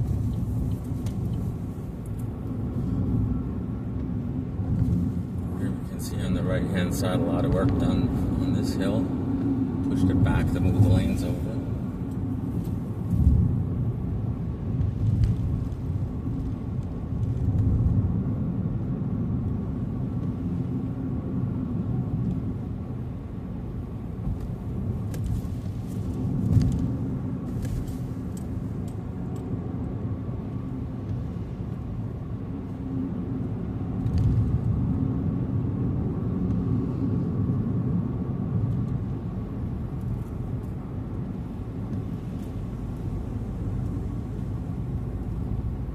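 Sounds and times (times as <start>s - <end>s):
road and engine rumble: 0.0s - 45.9s.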